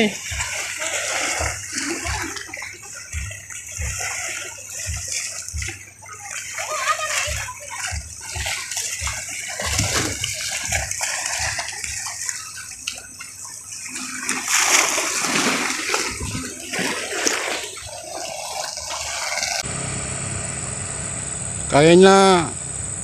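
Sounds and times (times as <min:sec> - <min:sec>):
waves splashing against seawall: 0:00.0 - 0:19.6.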